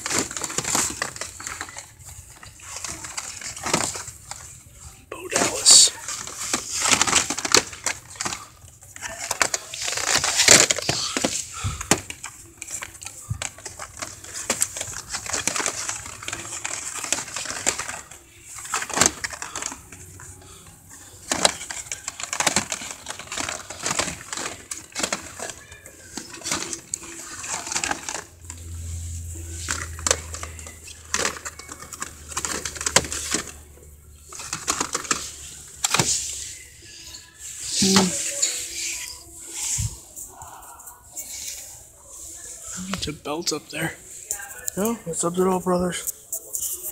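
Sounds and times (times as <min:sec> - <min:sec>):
plastic packaging crinkling: 0:00.0 - 0:46.9.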